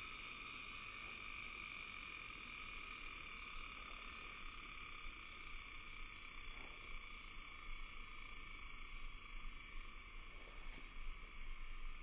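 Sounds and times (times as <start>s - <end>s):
frogs calling in slow motion: 0.0s - 12.0s.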